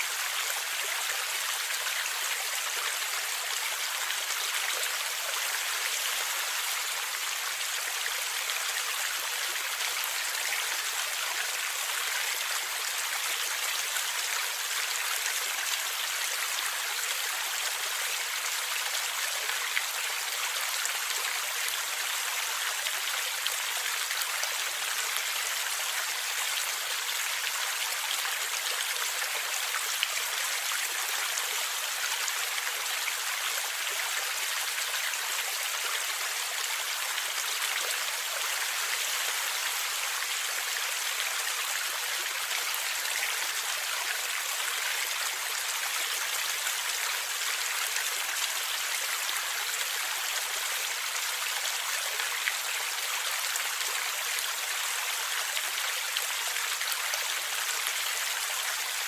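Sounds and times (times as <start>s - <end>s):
stream water flowing and gurgling: 0.0s - 59.0s.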